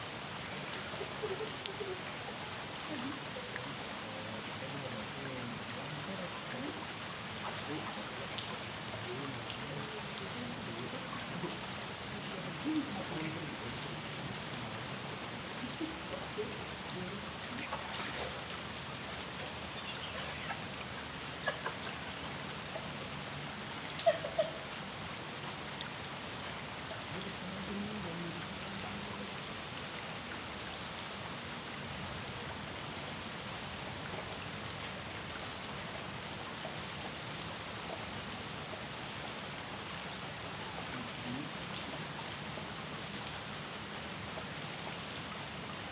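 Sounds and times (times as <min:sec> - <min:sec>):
rain falling on a pond: 0:00.0 - 0:45.9.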